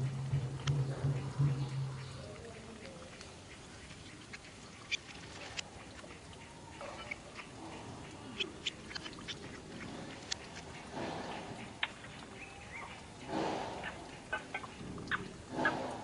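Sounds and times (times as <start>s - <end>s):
rough loud monkey noise: 0.0s - 16.0s.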